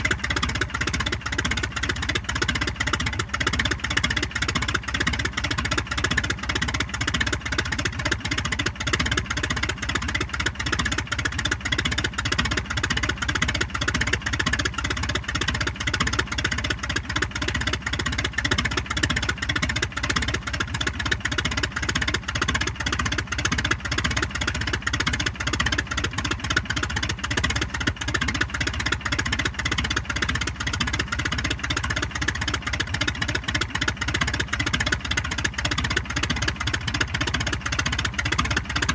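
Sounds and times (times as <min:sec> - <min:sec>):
piston aircraft engine idling: 0:00.0 - 0:38.9.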